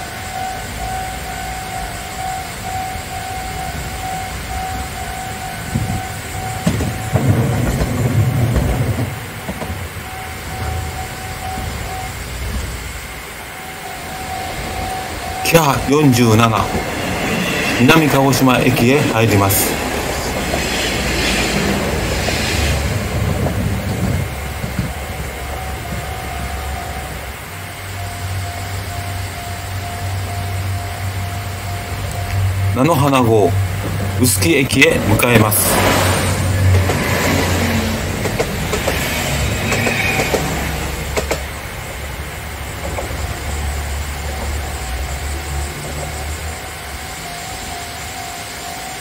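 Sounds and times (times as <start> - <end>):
diesel railcar passing: 0.0 - 49.0.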